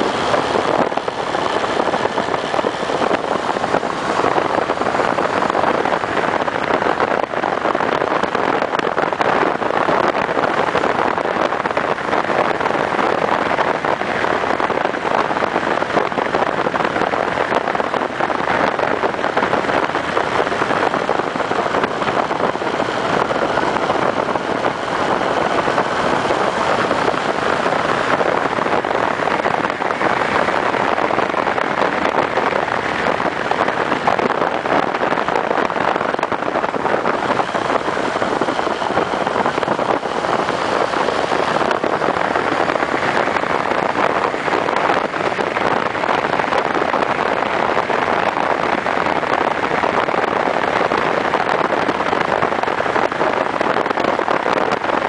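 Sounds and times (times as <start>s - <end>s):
motorcycle engine running: 0.0s - 53.5s
wind and road noise: 0.0s - 55.0s.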